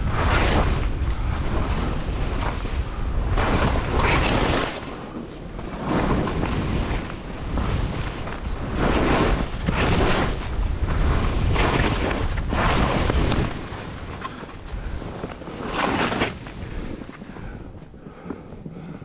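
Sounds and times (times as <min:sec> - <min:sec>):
skis swooshing on snow: 0:00.0 - 0:17.6
wind buffeting microphone: 0:00.0 - 0:19.0.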